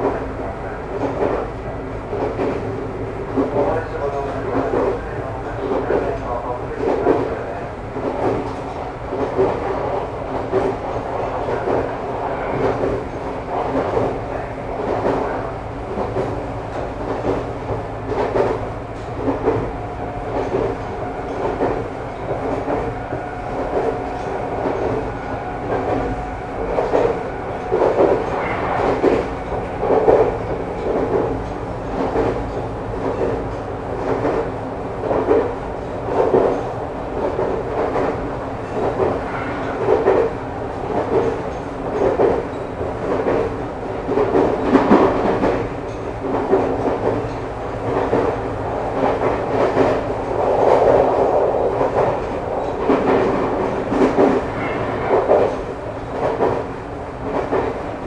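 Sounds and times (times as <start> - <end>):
train rumble: 0.0 - 58.0
wheels clacking over rail joints: 2.1 - 57.9.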